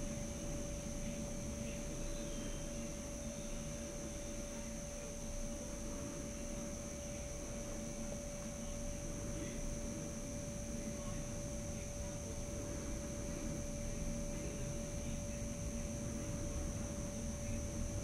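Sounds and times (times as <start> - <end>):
mid-pitched hum: 0.0 - 18.0
thin high whine: 0.0 - 18.0.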